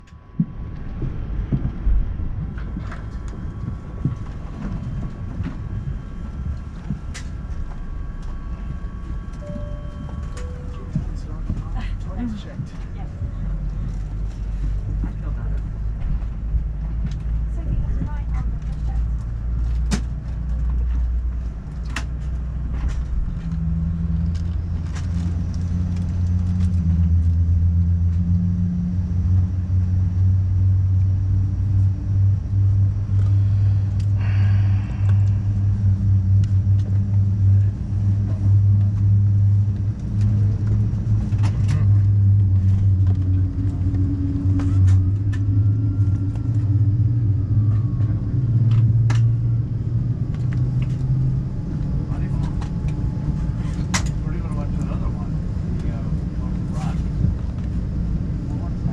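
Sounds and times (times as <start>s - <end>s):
aircraft cabin rumble and hum: 0.0s - 58.9s.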